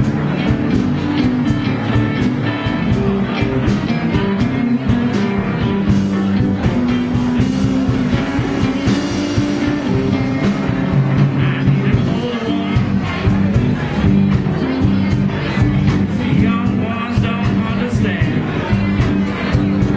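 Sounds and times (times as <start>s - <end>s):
bass: 0.0s - 19.9s
drum kit beat: 0.0s - 19.9s
electric guitars: 0.0s - 19.9s
keyboards: 0.0s - 19.9s.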